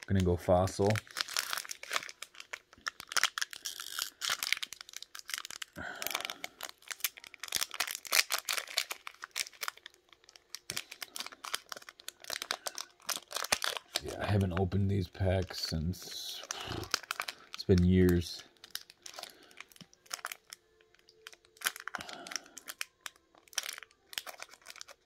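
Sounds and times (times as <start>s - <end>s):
foil wrapper crinkling and tearing: 0.0s - 25.0s.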